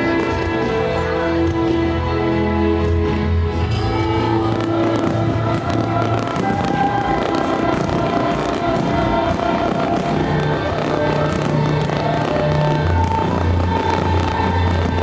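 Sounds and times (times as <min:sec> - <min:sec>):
fireworks popping and crackling: 0:00.0 - 0:01.8, 0:03.6 - 0:15.0
loud music with held notes: 0:00.0 - 0:15.0.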